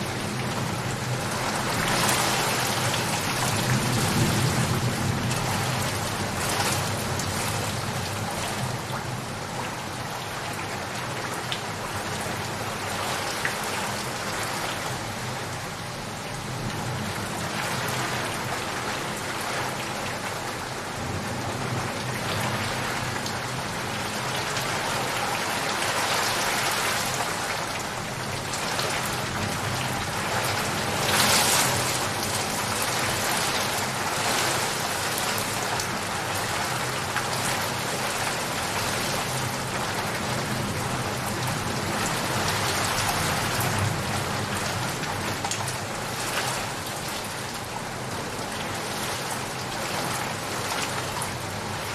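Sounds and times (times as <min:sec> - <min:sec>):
rain pattering on surfaces: 0:00.0 - 0:51.9.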